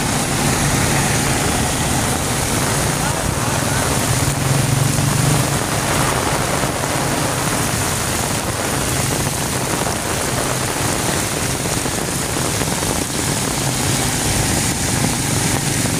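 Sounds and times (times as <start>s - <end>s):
heavy rain on flooded street: 0.0s - 15.9s
traffic engines humming: 0.0s - 15.9s.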